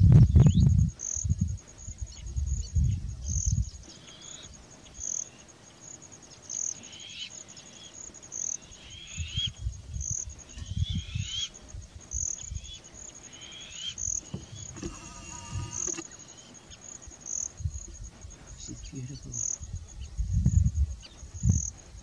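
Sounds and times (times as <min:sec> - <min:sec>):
high insect-like trill: 0:00.3 - 0:22.0.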